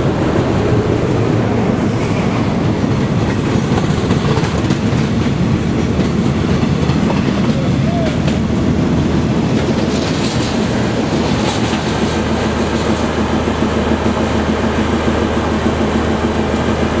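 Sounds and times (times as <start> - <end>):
train rumbling past: 0.0 - 17.0
wheels clacking over rail joints: 0.0 - 17.0.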